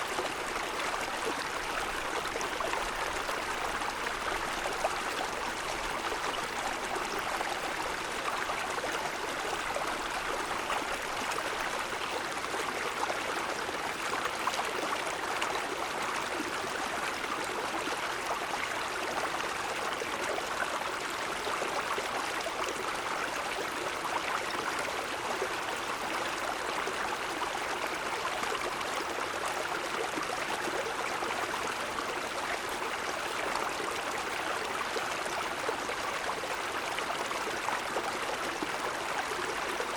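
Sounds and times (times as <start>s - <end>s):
stream water rushing and babbling: 0.0s - 39.9s.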